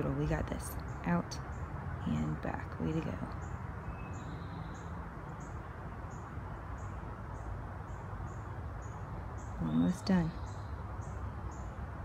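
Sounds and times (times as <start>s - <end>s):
low outdoor background noise: 0.0s - 12.0s.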